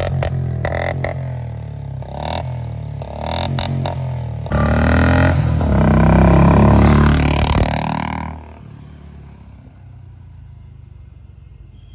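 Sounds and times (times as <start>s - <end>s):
motorcycle riding past: 0.0s - 10.2s
faint traffic hum: 0.0s - 11.9s.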